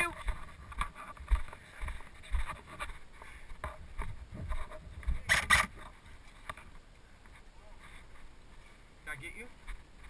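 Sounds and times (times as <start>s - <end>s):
rustling of someone moving: 0.0s - 10.0s.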